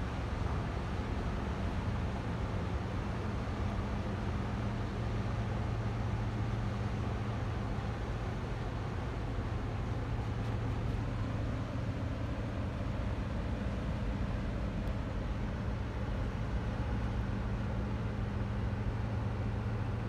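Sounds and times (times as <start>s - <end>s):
ship engine droning: 0.0s - 20.0s
wind and water hissing: 0.0s - 20.0s.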